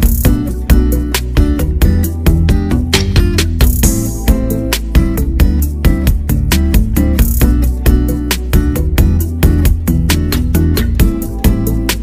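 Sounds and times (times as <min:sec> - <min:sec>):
drum beat: 0:00.0 - 0:12.0
heavy bass line: 0:00.0 - 0:12.0.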